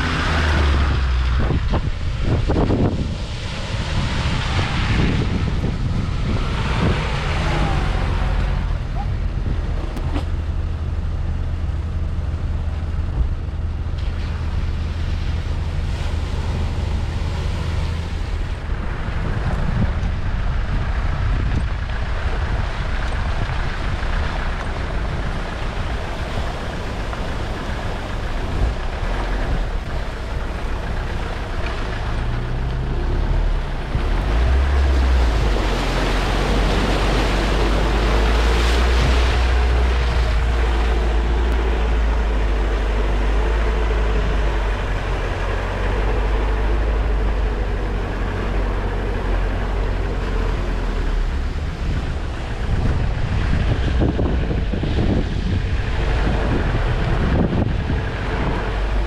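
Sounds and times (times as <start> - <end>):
wind on microphone: 0.0 - 10.7, 14.4 - 59.0
car engine at low revs: 0.0 - 59.0.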